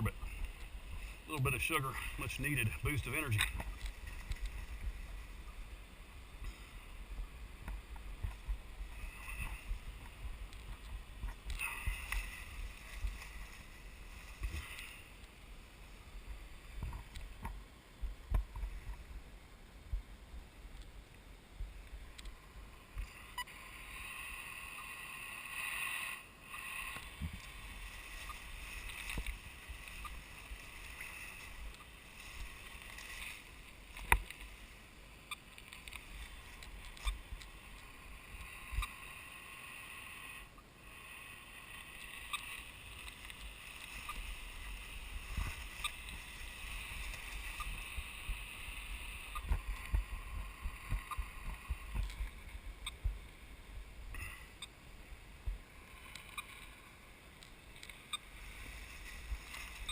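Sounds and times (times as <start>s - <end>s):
light hissing rustle: 0.0s - 19.8s, 20.6s - 59.9s
rustling in undergrowth: 0.0s - 59.9s.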